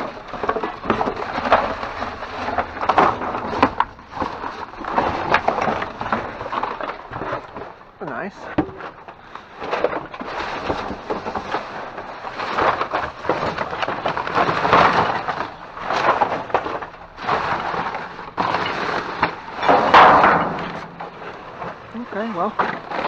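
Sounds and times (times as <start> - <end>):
trash rummaged by hand: 0.0 - 23.0.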